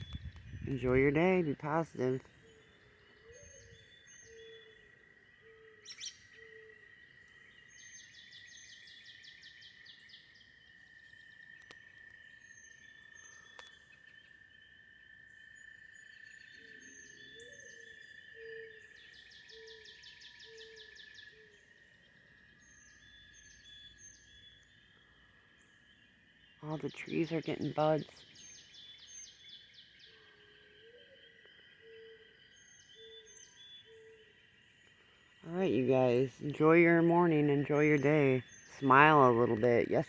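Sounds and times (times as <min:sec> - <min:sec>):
birds calling: 0:00.0 - 0:10.4, 0:16.1 - 0:40.0.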